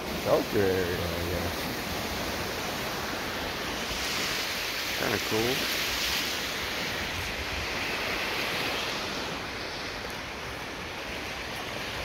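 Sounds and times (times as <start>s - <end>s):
surf washing on shore: 0.0s - 12.0s
wind on microphone: 0.0s - 12.0s.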